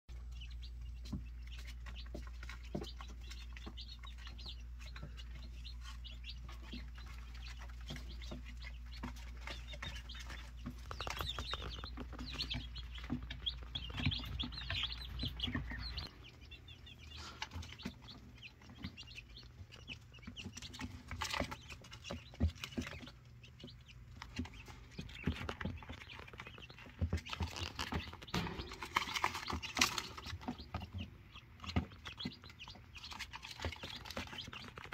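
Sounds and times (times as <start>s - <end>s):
chicks peeping: 0.1s - 34.9s
pecking and scratching clicks: 0.3s - 16.5s, 17.1s - 34.9s.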